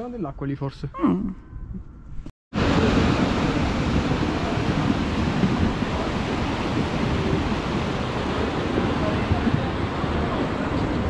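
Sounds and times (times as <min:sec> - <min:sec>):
wind buffeting microphone: 0:01.5 - 0:11.0.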